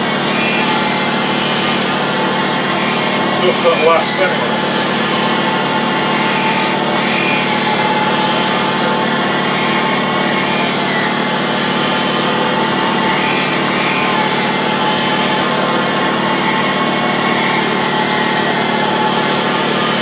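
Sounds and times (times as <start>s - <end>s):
surface grinder grinding a blade: 0.0s - 20.0s.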